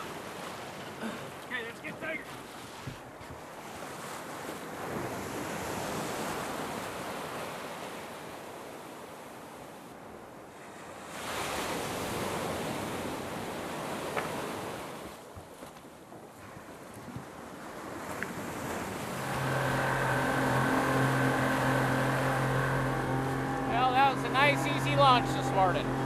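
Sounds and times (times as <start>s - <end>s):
ocean surf breaking: 0.0s - 8.8s, 10.5s - 15.2s, 16.4s - 26.0s
water washing around boat hull: 0.0s - 26.0s.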